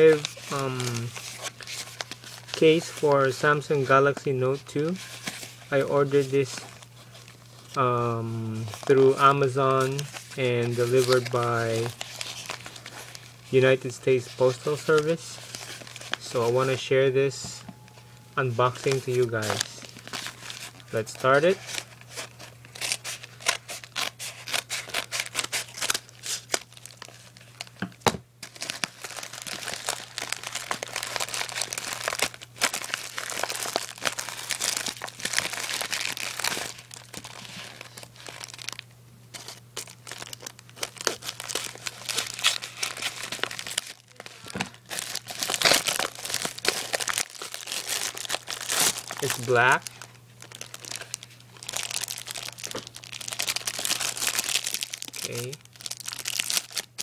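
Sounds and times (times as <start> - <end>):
packaging crinkling and tearing: 0.0 - 16.9, 18.5 - 57.0.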